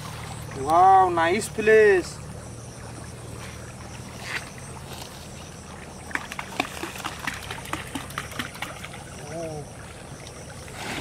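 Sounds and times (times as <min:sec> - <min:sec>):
steady low hum: 0:00.0 - 0:11.0
stream trickling: 0:00.0 - 0:11.0.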